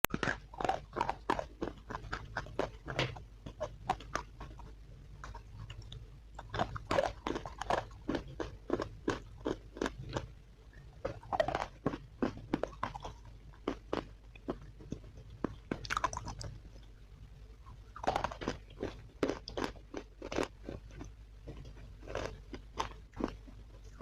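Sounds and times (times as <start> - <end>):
person chewing crunchy sticks: 0.0 - 16.9, 17.7 - 24.0.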